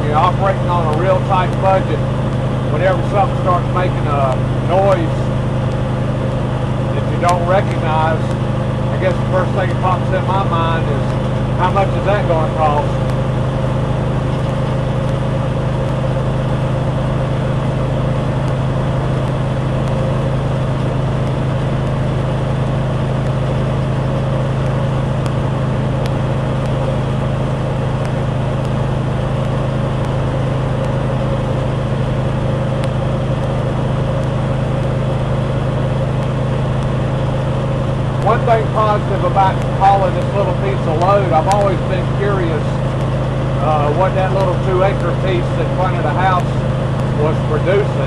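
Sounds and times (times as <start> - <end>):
road noise: 0.0 - 48.0
truck engine drone: 0.0 - 48.0.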